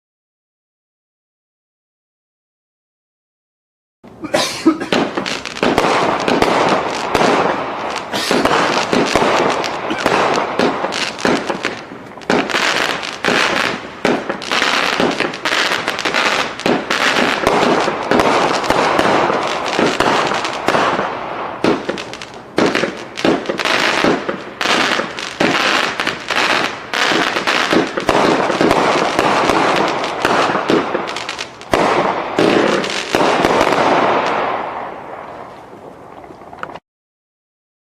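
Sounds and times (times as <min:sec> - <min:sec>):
fireworks bangs and crackles: 0:04.8 - 0:36.8.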